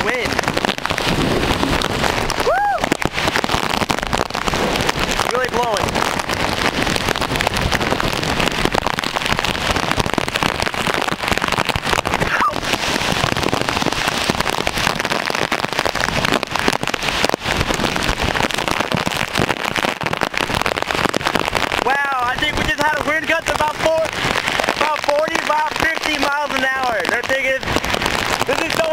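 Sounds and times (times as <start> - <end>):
gusting wind: 0.0 - 28.9
heavy rain pouring: 0.0 - 28.9.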